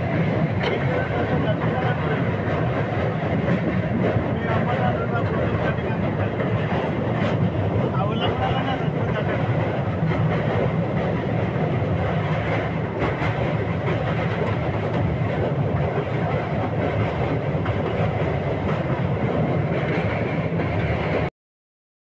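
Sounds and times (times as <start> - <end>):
train wheels on rails: 0.0 - 21.3.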